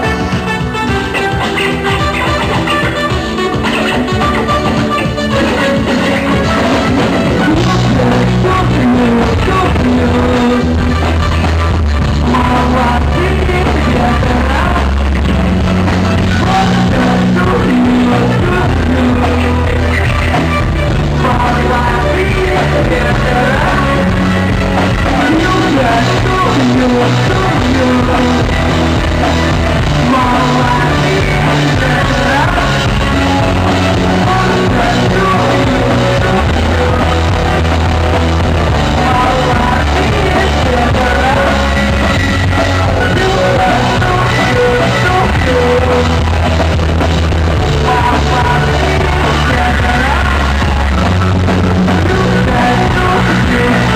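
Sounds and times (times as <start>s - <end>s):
bass line: 0.0s - 53.9s
distorted guitars: 0.0s - 53.9s
drums: 0.0s - 53.9s
person singing: 0.0s - 53.9s.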